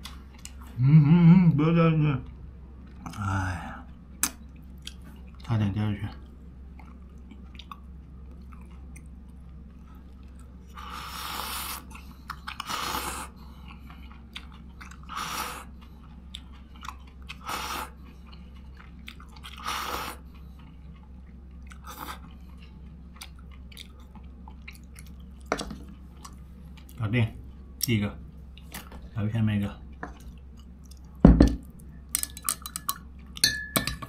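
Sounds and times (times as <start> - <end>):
person chewing food: 0.0 - 0.8, 2.2 - 5.5, 6.2 - 29.1, 29.8 - 33.4.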